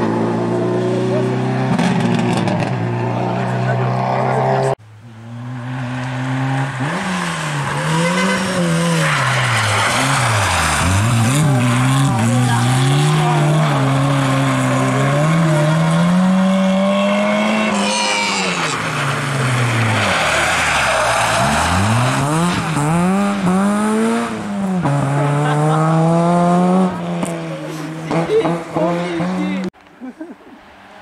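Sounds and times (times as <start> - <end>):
rally car engines at full throttle: 0.0 - 31.0.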